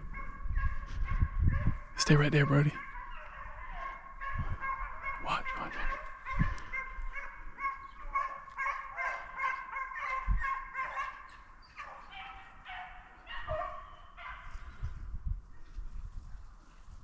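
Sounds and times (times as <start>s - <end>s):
hounds baying: 0.0s - 14.8s.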